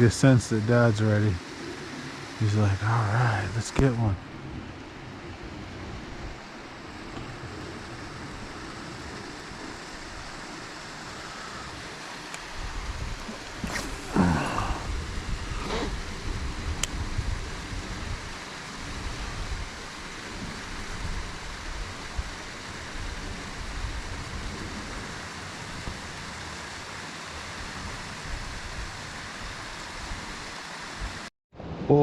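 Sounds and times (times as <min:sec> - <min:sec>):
rushing water: 0:00.0 - 0:31.3.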